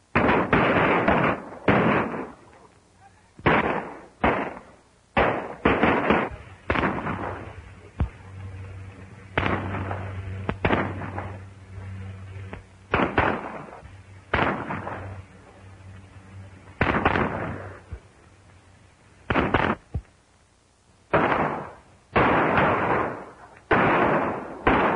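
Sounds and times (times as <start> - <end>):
echoing gunshots: 0.1 - 2.5, 3.4 - 18.2, 19.2 - 20.0, 21.1 - 24.9.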